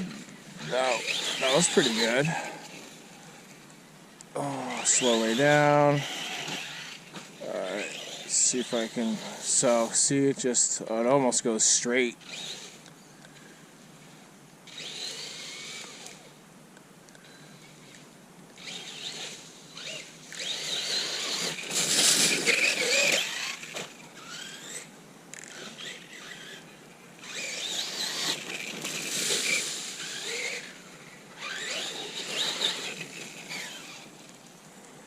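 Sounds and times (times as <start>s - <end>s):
rc car motor whining: 0.0s - 3.8s, 4.4s - 10.8s, 11.6s - 16.4s, 17.1s - 34.5s.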